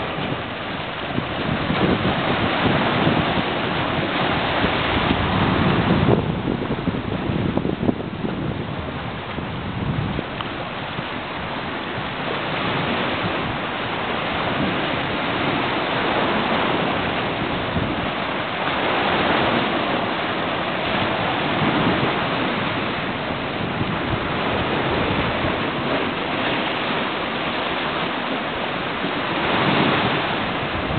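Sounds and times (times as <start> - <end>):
sea surf washing onto rocks: 0.0 - 30.9.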